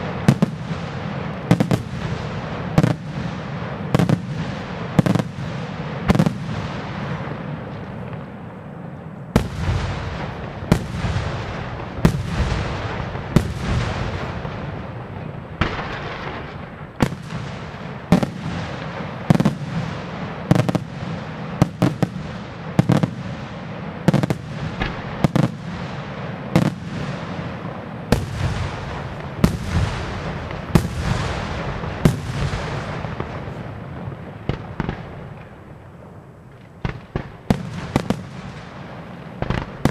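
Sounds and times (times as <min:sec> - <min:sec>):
fireworks bursting with bangs: 0:00.0 - 0:39.9.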